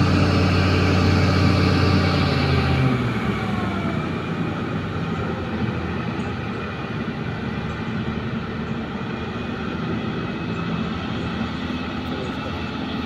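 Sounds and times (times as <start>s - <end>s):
excavator engine running: 0.0s - 13.0s
truck diesel engine droning: 0.0s - 13.0s.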